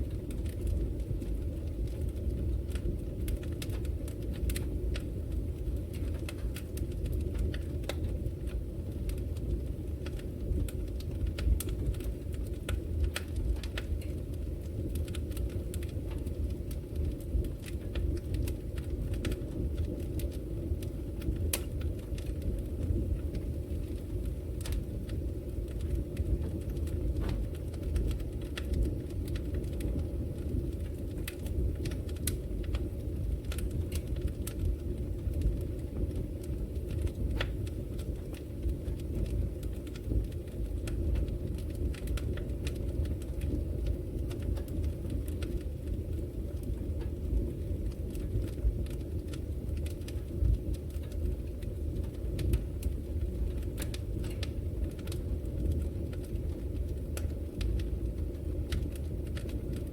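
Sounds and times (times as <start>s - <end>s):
low rumble of fire: 0.0s - 59.9s
sharp crackles of burning logs: 0.0s - 59.9s.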